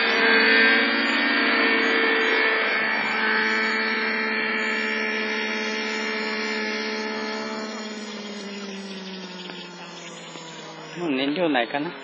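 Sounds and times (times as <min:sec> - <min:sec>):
model glow engine running: 0:00.0 - 0:12.0.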